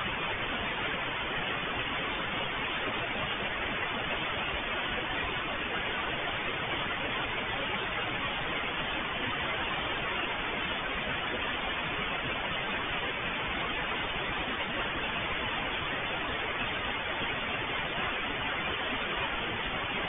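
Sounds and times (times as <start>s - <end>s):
static hiss: 0.0s - 20.0s.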